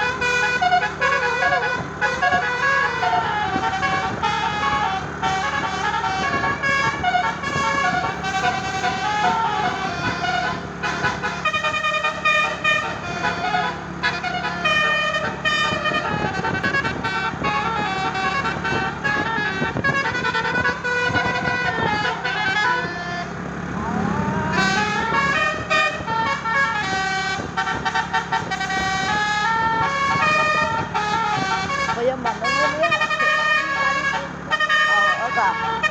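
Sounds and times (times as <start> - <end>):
bus engine drone: 0.0 - 35.9
musical air horn melody: 0.0 - 35.9.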